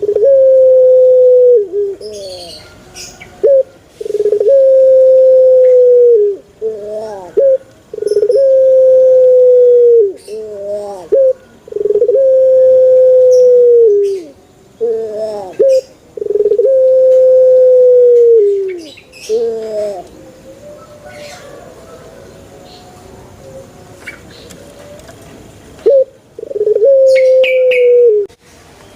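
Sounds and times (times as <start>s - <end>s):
dove cooing: 0.0s - 25.2s, 25.8s - 28.3s.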